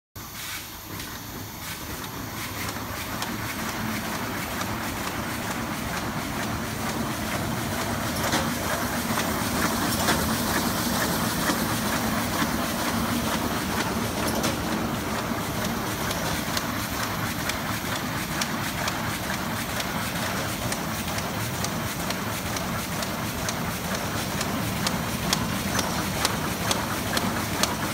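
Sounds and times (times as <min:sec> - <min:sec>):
book-sewing machine clattering: 0:01.9 - 0:27.9.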